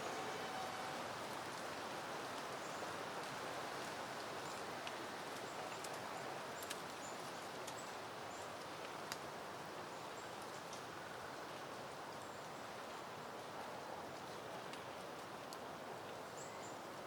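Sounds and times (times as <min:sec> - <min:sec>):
wind rustling through leaves: 0:00.0 - 0:17.0.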